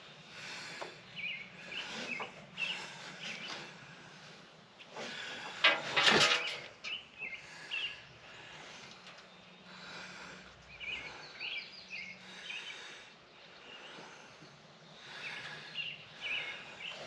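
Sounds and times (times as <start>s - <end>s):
small birds chirping: 0.0s - 5.6s, 6.4s - 17.0s
faint background hum: 0.0s - 17.0s.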